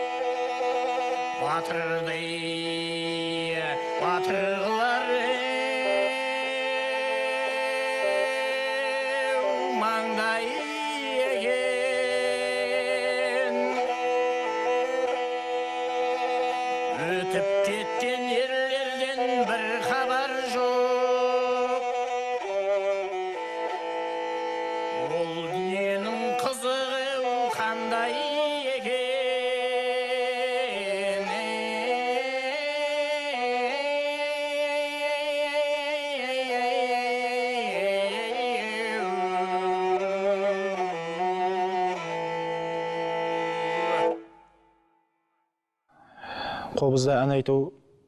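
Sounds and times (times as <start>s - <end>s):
bowed string ensemble melody: 0.0s - 44.8s.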